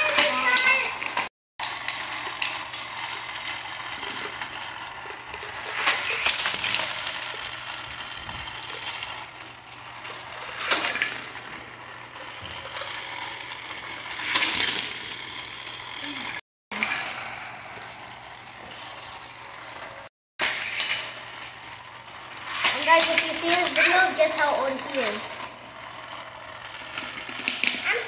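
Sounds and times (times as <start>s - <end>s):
toy cars rattling on plastic track: 0.0s - 28.0s.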